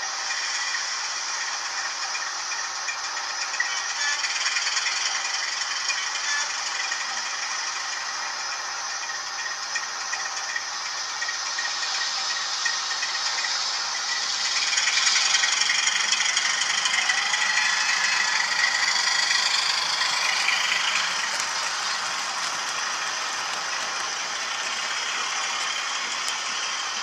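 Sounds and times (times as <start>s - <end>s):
model train wheels rattling: 0.0s - 27.0s.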